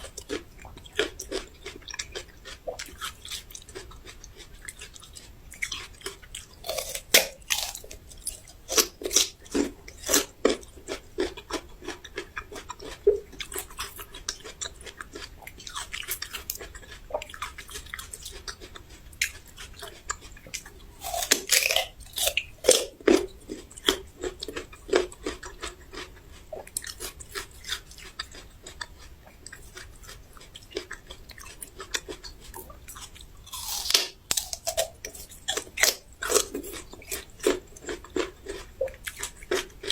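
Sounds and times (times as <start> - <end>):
raw ginger being chewed: 0.0 - 39.9.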